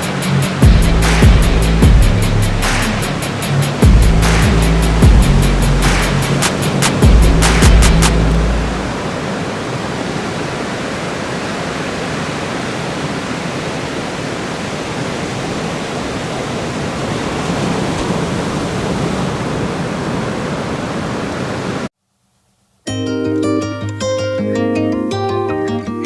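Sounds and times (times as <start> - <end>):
heavy ocean surf roaring: 0.0 - 21.9.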